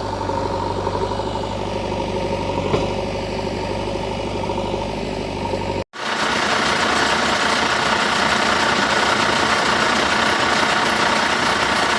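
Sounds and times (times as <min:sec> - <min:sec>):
hissy engine-like running: 0:00.0 - 0:11.9
vehicle engine running: 0:00.0 - 0:11.9.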